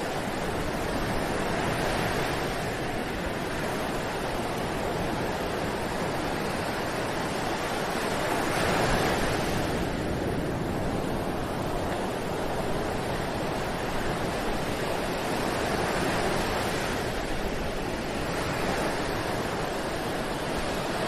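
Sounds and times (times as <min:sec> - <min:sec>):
waves breaking on beach: 0:00.0 - 0:21.0.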